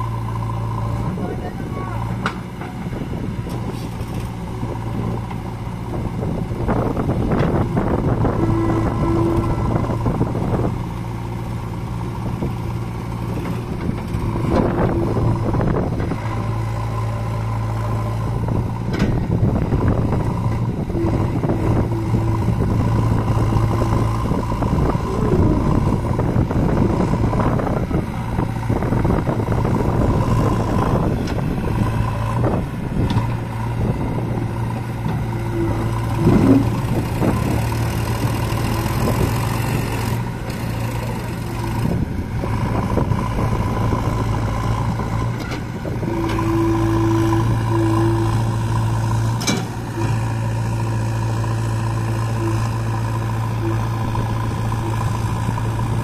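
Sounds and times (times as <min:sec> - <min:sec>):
diesel engines running under load: 0:00.0 - 0:56.0.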